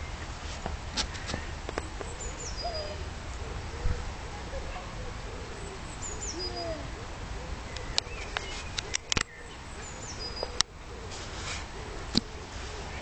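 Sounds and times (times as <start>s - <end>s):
faint high bird calls: 1.1s - 13.0s.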